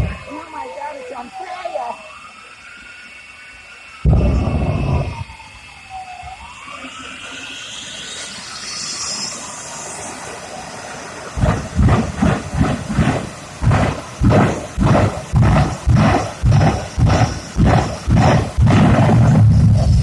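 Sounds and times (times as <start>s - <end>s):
afterburner bursts: 0.0s - 20.0s
jet turbine whining: 0.0s - 20.0s.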